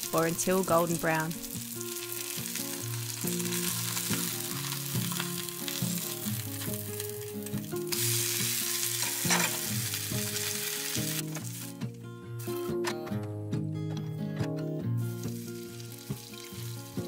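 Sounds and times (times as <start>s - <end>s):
batter sizzling in frying pan: 0.0s - 11.8s, 15.0s - 17.0s
soft background music: 0.0s - 17.0s.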